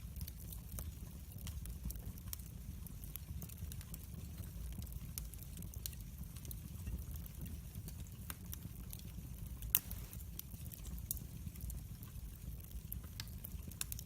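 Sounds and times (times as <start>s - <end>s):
fire crackles and pops: 0.0s - 14.0s
fire low rumble: 0.0s - 14.0s.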